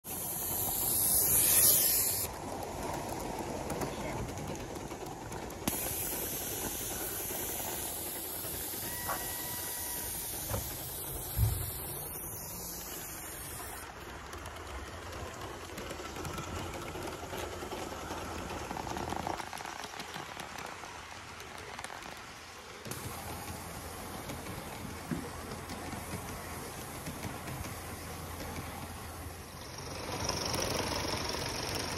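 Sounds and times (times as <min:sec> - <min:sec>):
steam hissing: 0:00.0 - 0:31.9
wheels running on track: 0:00.0 - 0:31.9.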